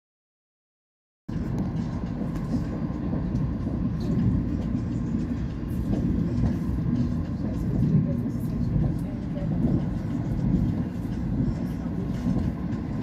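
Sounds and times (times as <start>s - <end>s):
train wheels rumbling on rails: 1.3s - 13.0s.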